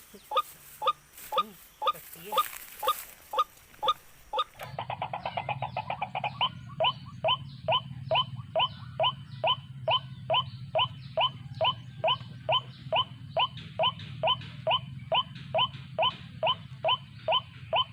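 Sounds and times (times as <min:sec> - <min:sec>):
low hum: 0:00.0 - 0:17.9
waterhen calling: 0:00.0 - 0:17.9.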